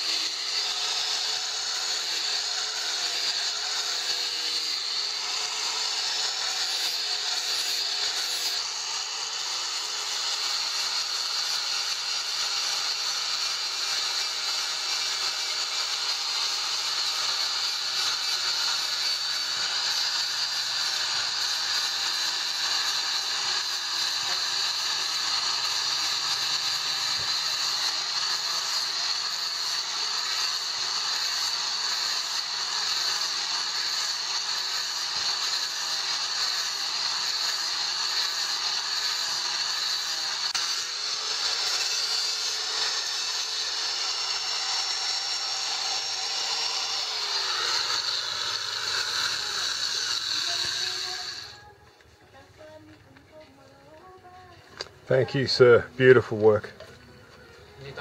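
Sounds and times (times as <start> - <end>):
angle grinder grinding steel: 0.0 - 51.8, 52.6 - 58.0.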